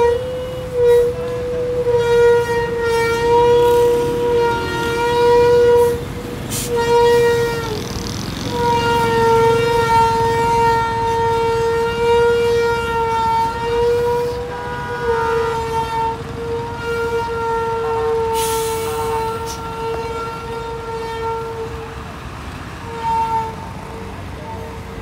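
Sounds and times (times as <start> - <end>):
vehicle horn blasts: 0.0 - 7.8, 8.5 - 21.9, 22.9 - 24.8
engines in slow traffic: 0.0 - 25.0.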